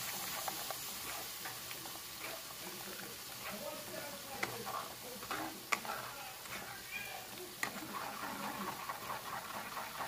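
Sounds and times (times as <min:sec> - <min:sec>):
soup bubbling: 0:00.0 - 0:10.0.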